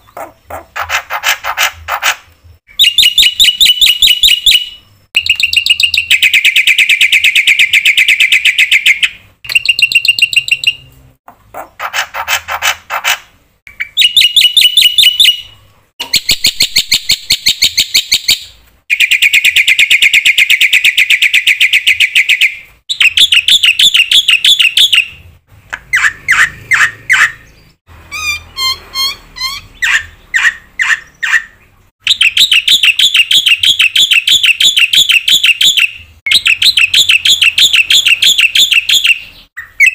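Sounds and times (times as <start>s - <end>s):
bird singing trills and chirps: 0.0s - 13.1s, 13.7s - 39.9s.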